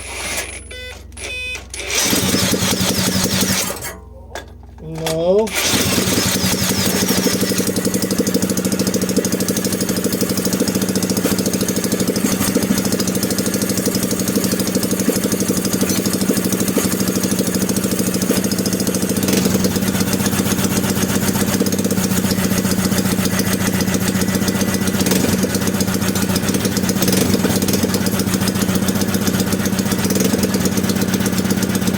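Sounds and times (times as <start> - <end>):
small four-stroke engine running: 1.7 - 4.0, 5.0 - 31.9.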